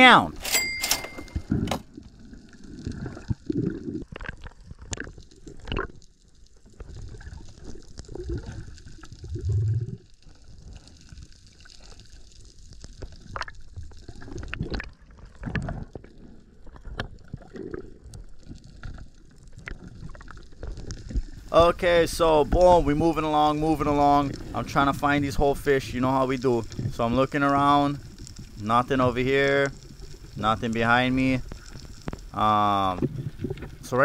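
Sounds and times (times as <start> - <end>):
underwater sloshing and gurgling: 1.4 - 34.0.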